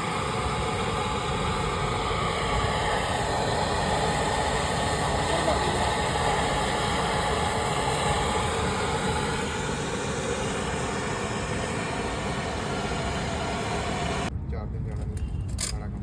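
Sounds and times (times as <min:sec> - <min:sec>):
machine running noise: 0:00.0 - 0:14.3.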